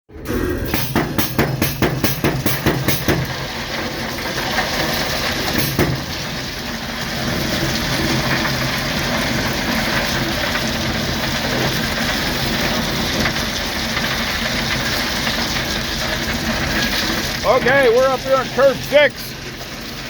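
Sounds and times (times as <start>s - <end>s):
diesel locomotive engine running: 0.2s - 20.0s.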